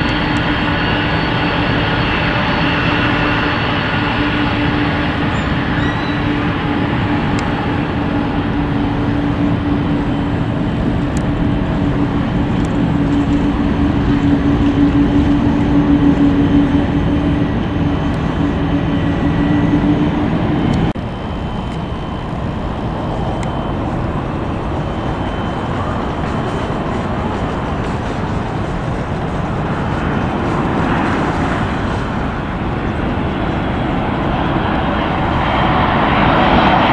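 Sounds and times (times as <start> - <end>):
even jet noise: 0.0 - 36.9
jet airliner engines droning: 0.0 - 36.9.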